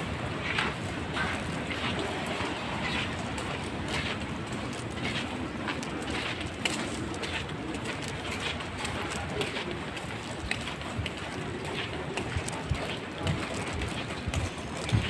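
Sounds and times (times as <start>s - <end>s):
footsteps splashing on wet pavement: 0.0s - 15.0s
rain on a wet street: 0.0s - 15.0s.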